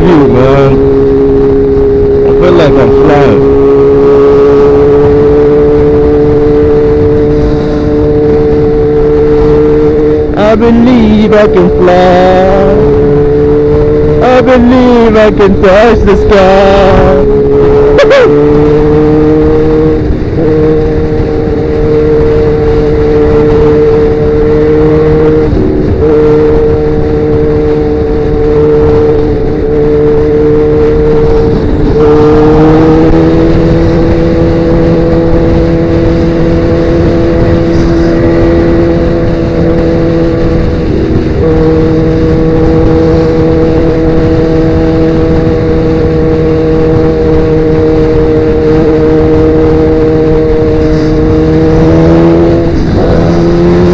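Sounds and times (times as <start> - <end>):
motorcycle engine cruising: 0.0 - 53.9.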